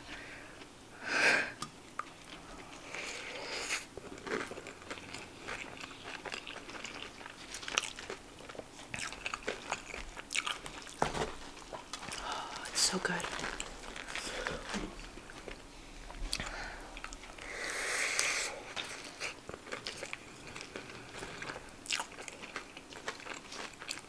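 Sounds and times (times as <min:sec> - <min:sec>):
crunchy chewing: 0:01.9 - 0:17.5, 0:18.2 - 0:24.0.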